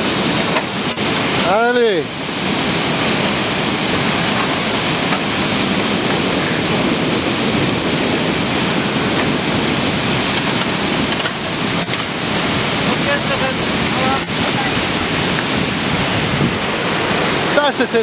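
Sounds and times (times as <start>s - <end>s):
river water rushing over a weir: 0.0s - 18.0s.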